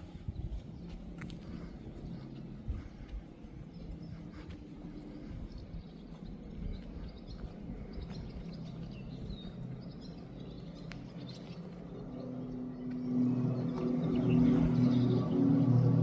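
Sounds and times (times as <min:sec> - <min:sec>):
deep drone with steady tones: 0:00.0 - 0:16.0
low hum: 0:00.0 - 0:16.0
small birds chirping faintly: 0:00.0 - 0:16.0.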